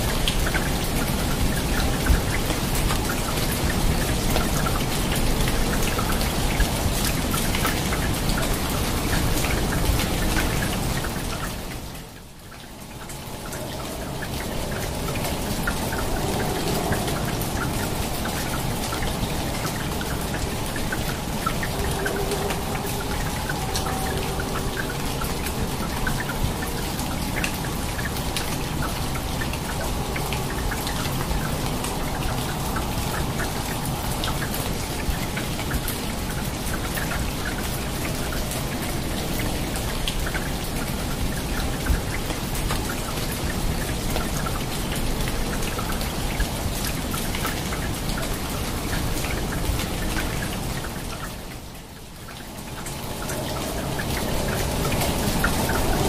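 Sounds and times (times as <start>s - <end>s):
rain hissing on foliage: 0.0s - 56.0s.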